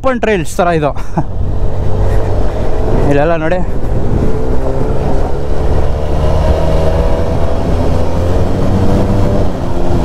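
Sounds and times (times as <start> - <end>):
motorcycle engine running: 1.3 - 10.0.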